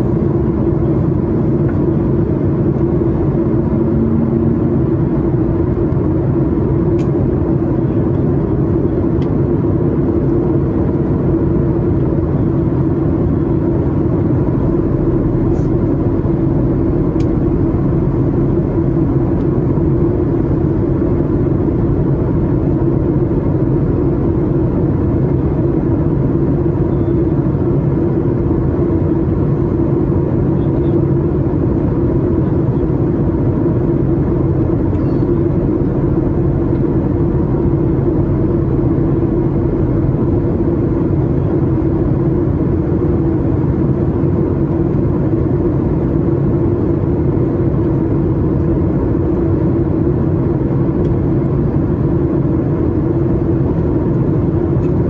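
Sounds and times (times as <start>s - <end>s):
aircraft cabin engine drone: 0.0s - 55.0s
steady hum: 0.0s - 55.0s.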